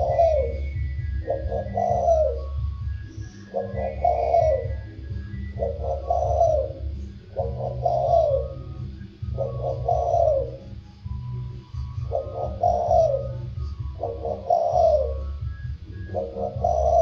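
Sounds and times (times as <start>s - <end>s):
dove cooing: 0.0s - 17.0s
low steady hum: 0.0s - 17.0s.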